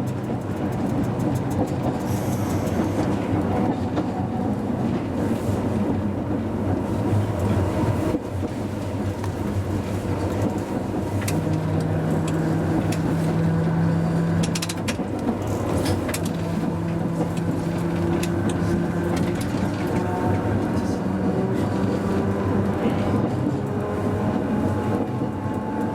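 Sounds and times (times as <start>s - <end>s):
wheels clicking on rails: 0.0s - 6.0s, 7.2s - 25.9s
streetcar running rumble: 0.0s - 25.9s.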